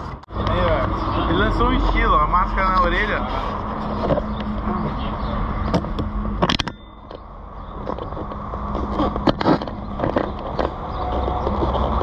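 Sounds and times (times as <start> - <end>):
motorcycle running: 0.0 - 12.0
wind and road noise: 0.0 - 12.0.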